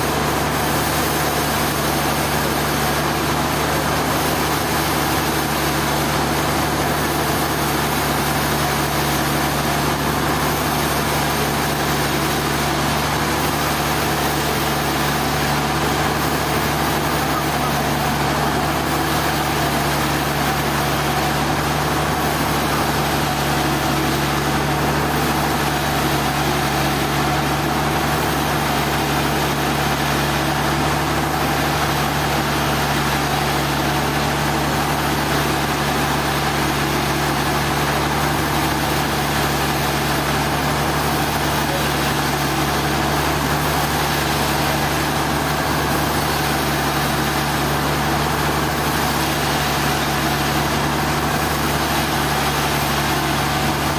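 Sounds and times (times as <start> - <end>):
engine running steadily: 0.0 - 53.9.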